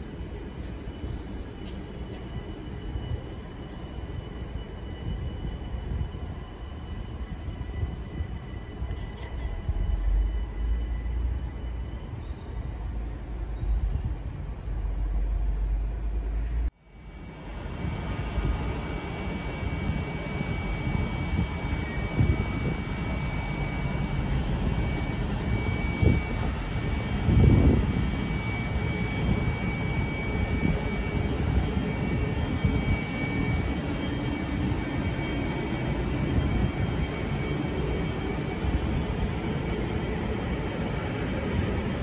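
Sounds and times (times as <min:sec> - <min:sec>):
train wheels rumbling on rail: 0:00.0 - 0:15.7, 0:17.3 - 0:42.0
thin steady whine: 0:00.0 - 0:42.0.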